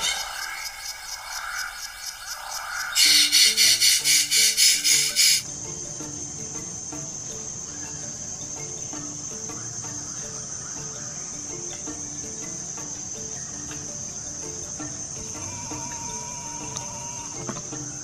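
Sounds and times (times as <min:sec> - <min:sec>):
forest insects droning: 0:00.0 - 0:18.0.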